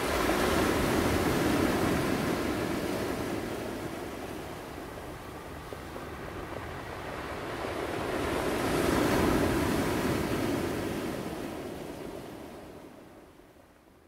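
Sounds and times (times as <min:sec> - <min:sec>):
ocean waves breaking: 0:00.0 - 0:13.2.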